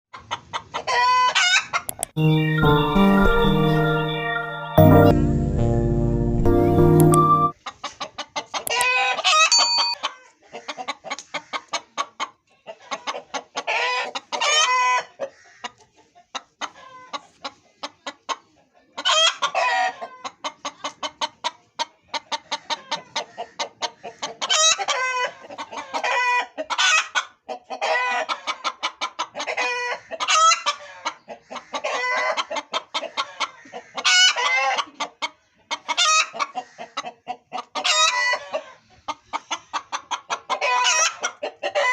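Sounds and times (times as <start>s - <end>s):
hen clucking: 0.2s - 4.7s, 7.6s - 41.9s.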